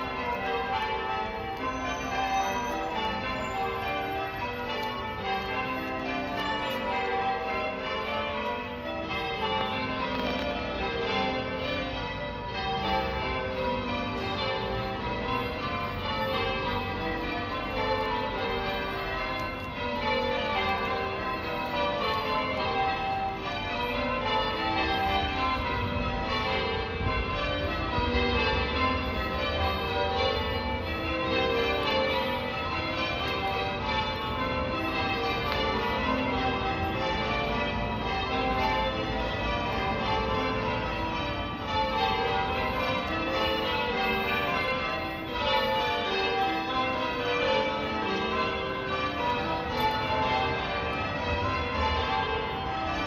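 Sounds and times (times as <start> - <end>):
church bells ringing: 0.0 - 53.0.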